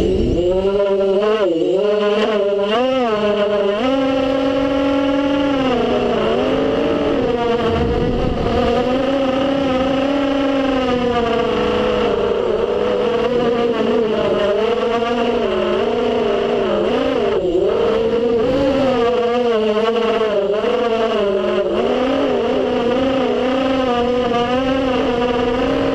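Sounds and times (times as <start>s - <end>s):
quadcopter motors whining: 0.0s - 25.9s.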